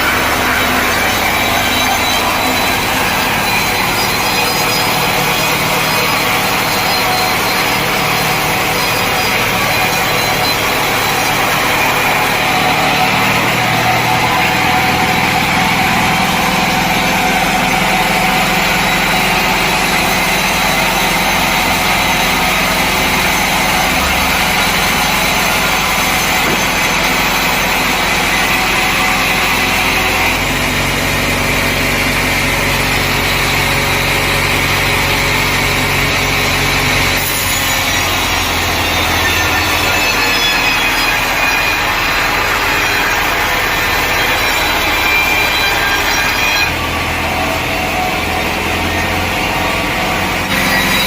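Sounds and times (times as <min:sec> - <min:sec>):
saw noise: 0:00.0 - 0:51.0
sawmill engine running: 0:00.0 - 0:51.0.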